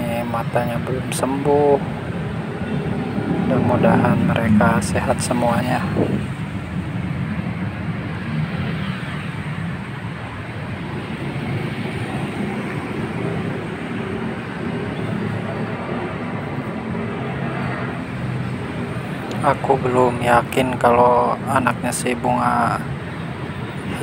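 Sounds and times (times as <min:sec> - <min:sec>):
cars passing: 0:00.0 - 0:24.0
motorbikes passing: 0:00.0 - 0:24.0
road traffic rumble: 0:00.0 - 0:24.0.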